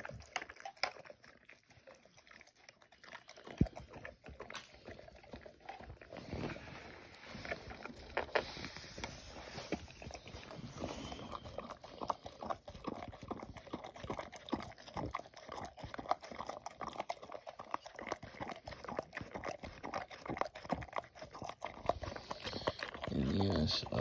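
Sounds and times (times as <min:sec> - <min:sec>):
dog licking and eating from a can: 0:00.0 - 0:24.0.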